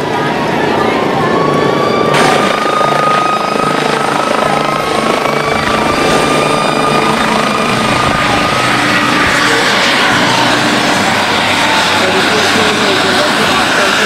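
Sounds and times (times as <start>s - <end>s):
helicopter engine and rotor: 0.0s - 14.0s
high turbine whine: 0.0s - 14.0s.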